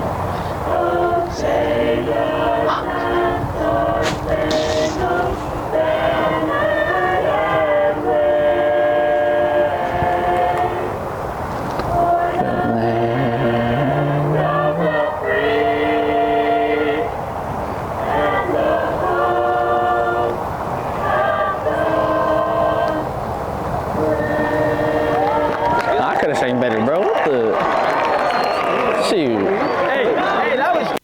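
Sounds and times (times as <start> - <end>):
singing over public address system: 0.4 - 27.5.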